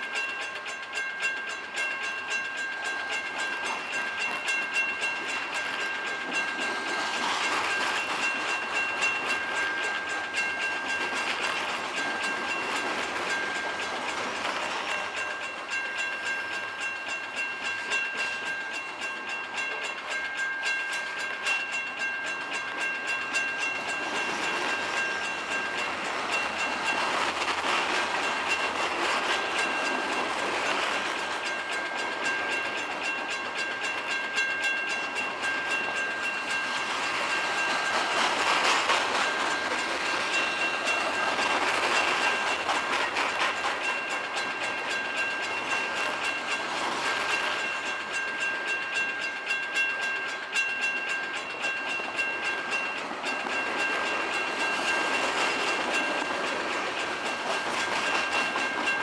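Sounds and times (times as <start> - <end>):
freight train rolling past: 0.0 - 59.0
wheels clattering over rail joints: 0.0 - 59.0.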